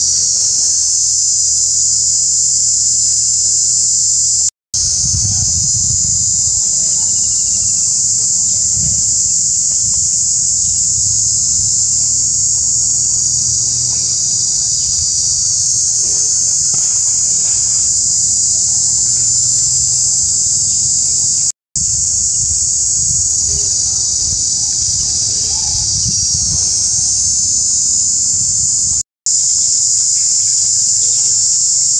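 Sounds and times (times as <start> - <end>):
high-pitched insect chorus: 0.0 - 31.9.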